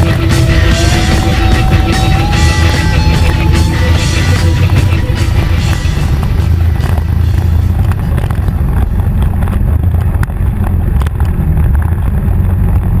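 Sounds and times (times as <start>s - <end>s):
quad engine running at low revs: 0.0s - 13.0s.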